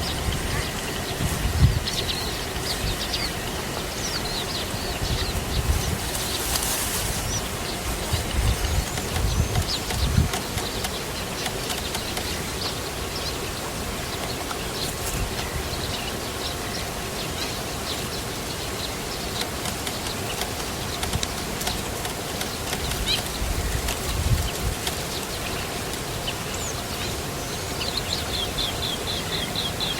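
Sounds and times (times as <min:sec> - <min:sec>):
birds chirping: 0:00.0 - 0:29.9
steady background hiss: 0:00.0 - 0:29.9.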